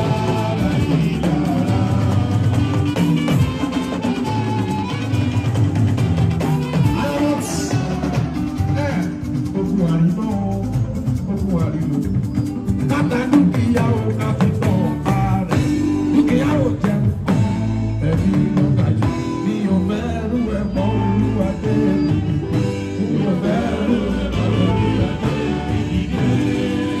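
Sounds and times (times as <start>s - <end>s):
person singing: 0.0s - 4.6s, 6.6s - 12.1s, 12.8s - 27.0s
electric guitars: 0.0s - 27.0s
talking drums: 0.0s - 27.0s.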